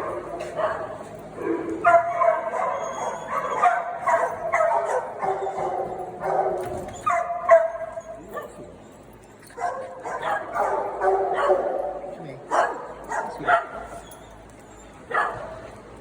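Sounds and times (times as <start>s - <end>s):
small dogs barking and yipping: 0.0s - 8.8s, 9.4s - 15.8s
dogs whining: 0.0s - 11.6s, 13.0s - 15.8s.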